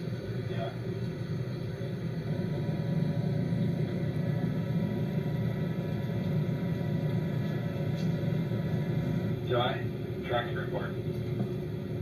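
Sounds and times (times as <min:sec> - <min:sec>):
machinery and ventilation hum: 0:00.0 - 0:12.0.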